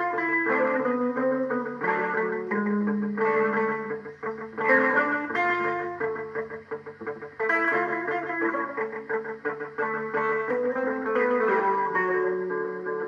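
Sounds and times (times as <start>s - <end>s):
fast plucked guitar notes: 0.0s - 13.0s.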